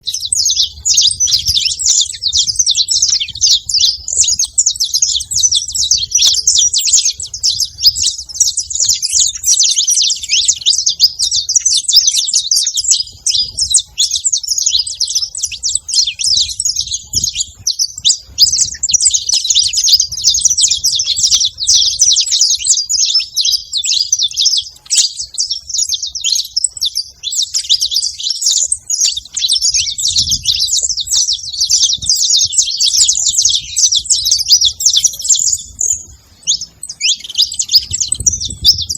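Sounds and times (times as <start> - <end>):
finches chirping and singing: 0.0 - 38.9.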